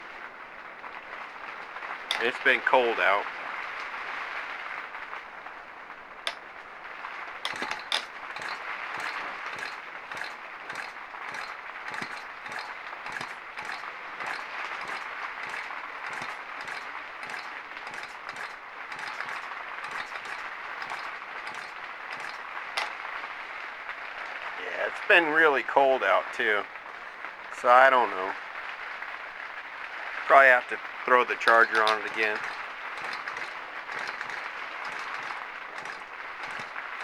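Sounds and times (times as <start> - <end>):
heavy rain on a roof: 0.0 - 37.0.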